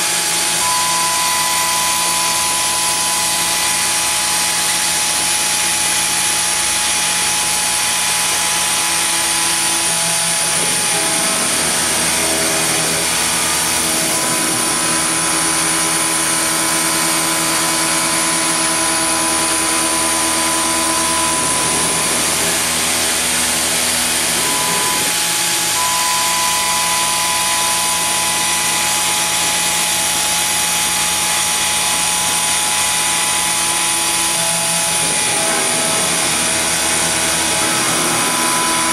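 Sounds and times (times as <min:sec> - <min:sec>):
milling machine spindle cutting metal: 0:00.0 - 0:38.9.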